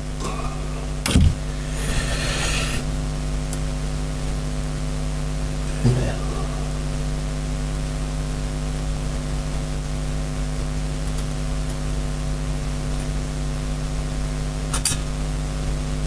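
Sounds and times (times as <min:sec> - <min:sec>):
mains electrical hum: 0:00.0 - 0:16.0.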